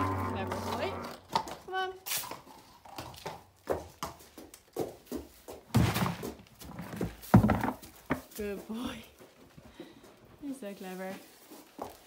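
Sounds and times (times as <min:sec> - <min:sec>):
horse hooves on concrete: 0:00.0 - 0:12.0.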